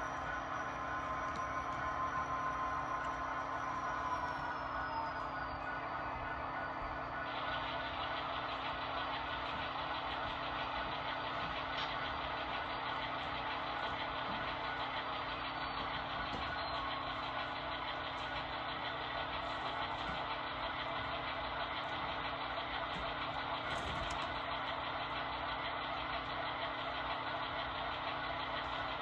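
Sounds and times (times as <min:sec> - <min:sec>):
model train rolling on rails: 0:00.0 - 0:29.0.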